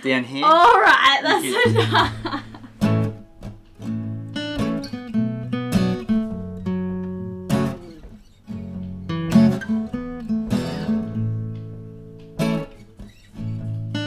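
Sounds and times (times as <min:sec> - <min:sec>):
strummed acoustic guitar chords: 0:01.5 - 0:14.0.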